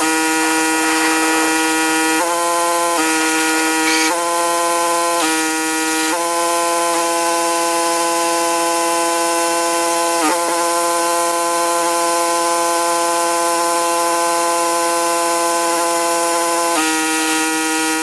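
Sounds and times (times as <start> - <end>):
pressure washer engine running: 0.0 - 18.0.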